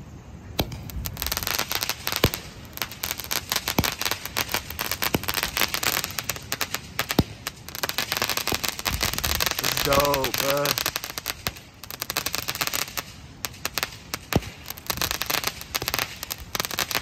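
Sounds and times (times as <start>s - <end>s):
fireworks cake crackling pops: 0.6s - 17.0s
fireworks shots launching: 0.6s - 17.0s.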